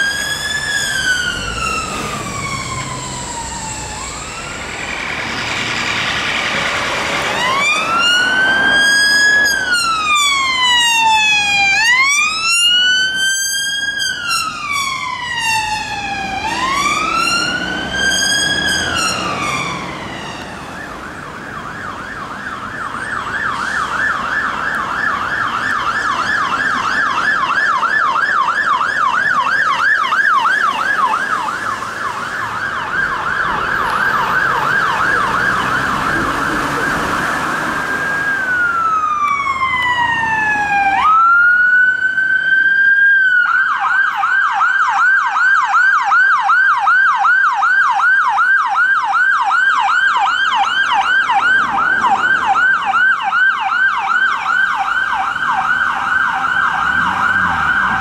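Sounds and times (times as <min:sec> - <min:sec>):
siren yelping: 0:00.0 - 0:58.0.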